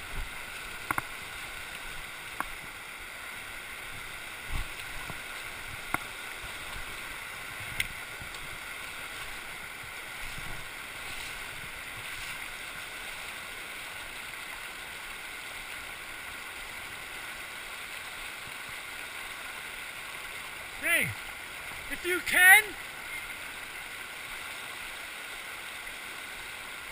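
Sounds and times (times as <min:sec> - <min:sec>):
river rushing over cobbles: 0:00.0 - 0:26.9.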